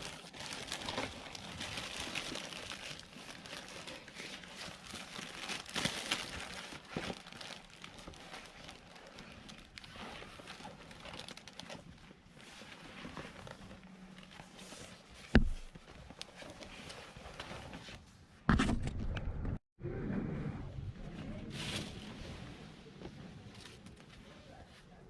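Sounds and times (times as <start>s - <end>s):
crinkling and rustling handling noise: 0.0s - 18.4s, 21.0s - 25.0s.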